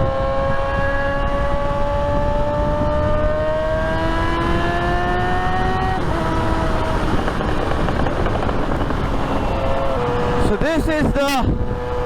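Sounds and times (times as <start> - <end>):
motorcycle engine accelerating: 0.0 - 12.0
wind rushing: 0.0 - 12.0.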